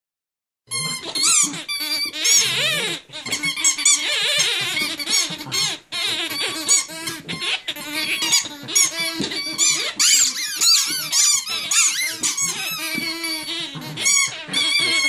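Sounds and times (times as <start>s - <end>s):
squeaky dog toys squeaking: 0.7s - 15.0s.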